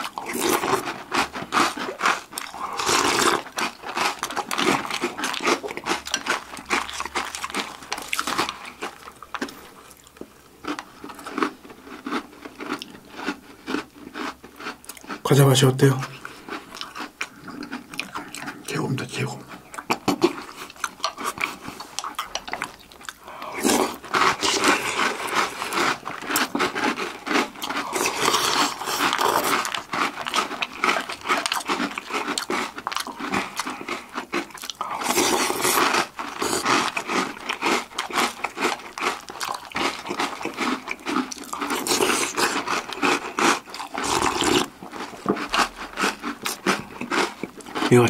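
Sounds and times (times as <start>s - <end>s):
cereal crunching while chewing: 0.0s - 48.0s.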